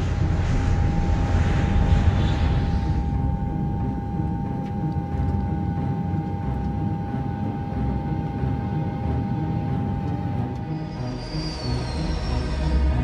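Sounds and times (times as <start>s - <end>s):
constant high hum: 0.0s - 13.0s
jet airliner rumble: 0.0s - 13.0s.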